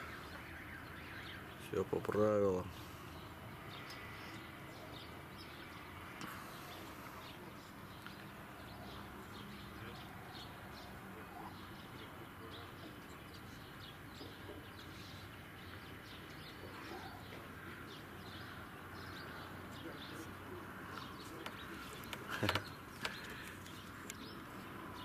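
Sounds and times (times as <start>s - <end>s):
faint birds chirping: 0.0s - 25.0s
outdoor background noise: 0.0s - 25.0s.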